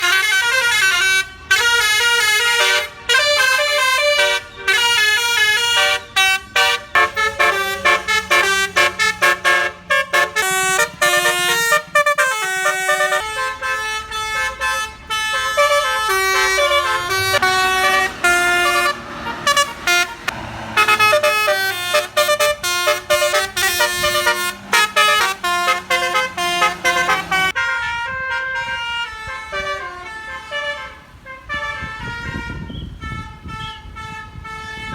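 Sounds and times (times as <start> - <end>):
musical air horn melody: 0.0 - 34.9.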